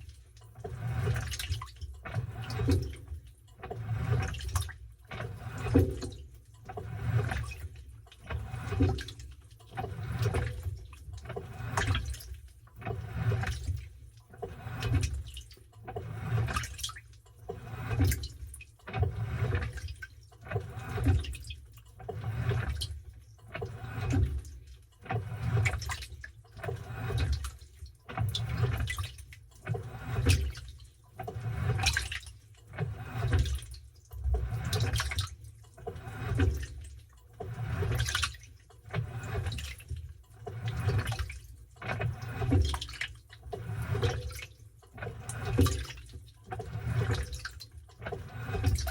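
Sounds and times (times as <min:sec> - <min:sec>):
washing machine sloshing water: 0:00.0 - 0:48.9.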